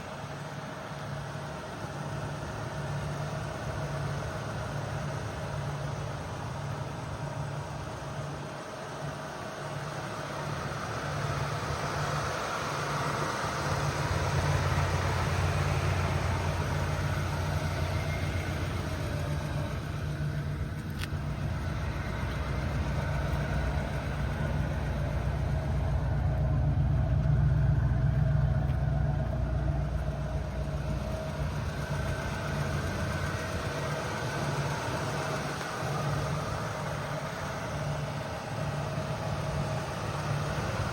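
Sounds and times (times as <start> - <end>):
car engine running: 0.9 - 40.9.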